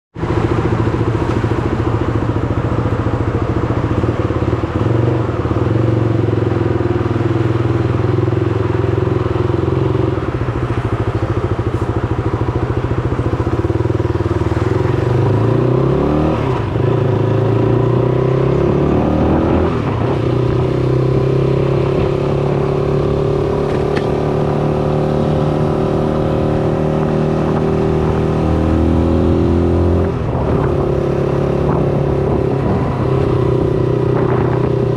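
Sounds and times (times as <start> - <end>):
motorcycle engine accelerating: 0.2 - 34.9.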